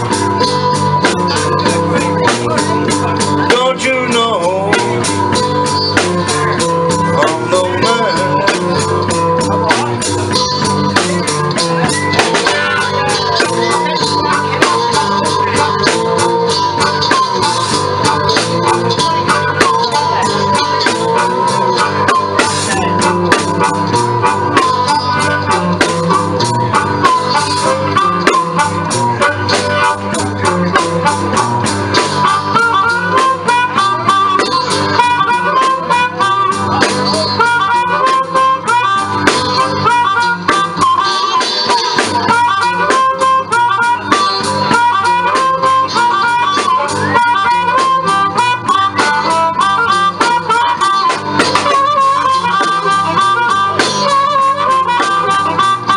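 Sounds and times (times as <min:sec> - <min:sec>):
drums fast beat: 0:00.0 - 0:55.9
guitar: 0:00.0 - 0:55.9
harmonica solo: 0:00.0 - 0:55.9.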